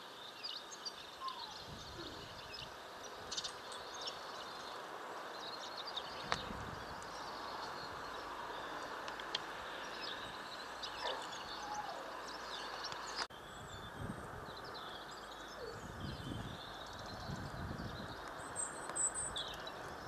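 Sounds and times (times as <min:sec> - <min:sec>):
small birds twittering: 0:00.0 - 0:20.0.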